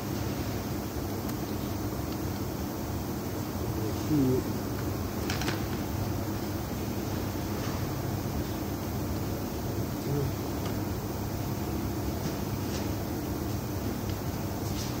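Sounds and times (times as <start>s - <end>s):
fan-like background noise: 0.0s - 15.0s.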